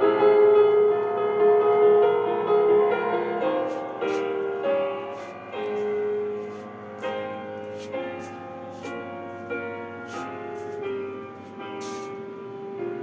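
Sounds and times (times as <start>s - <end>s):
slow keyboard melody: 0.0s - 13.0s.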